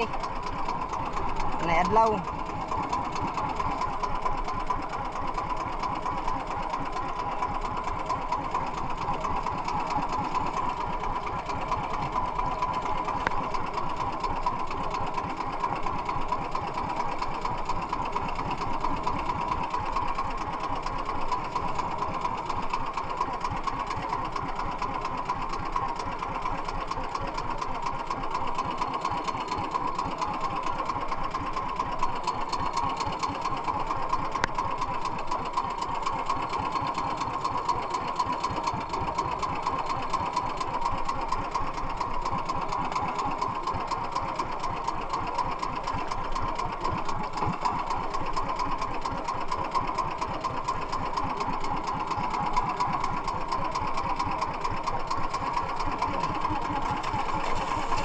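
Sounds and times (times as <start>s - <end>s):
boat engine chattering: 0.0s - 58.0s.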